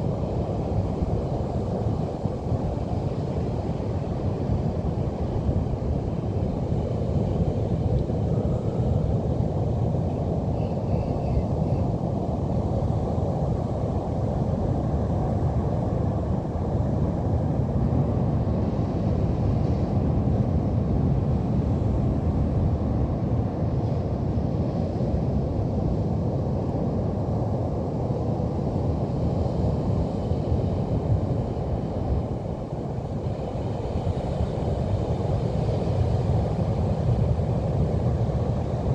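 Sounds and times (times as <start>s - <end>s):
ocean surf on a beach: 0.0s - 38.9s.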